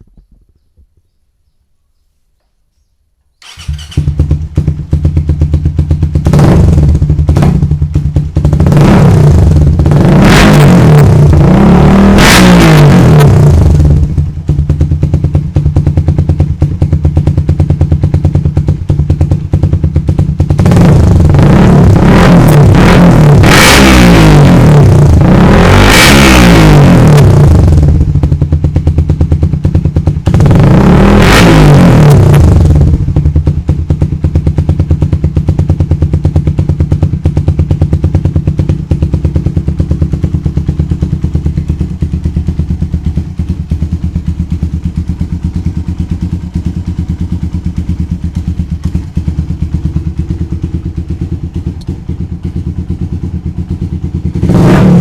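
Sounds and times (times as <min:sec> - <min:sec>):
motorcycle engine revving and idling: 0:03.4 - 0:55.0.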